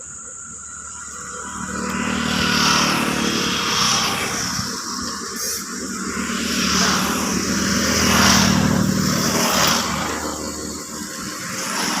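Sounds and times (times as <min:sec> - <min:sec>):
vehicle engine passing: 0:00.7 - 0:12.0.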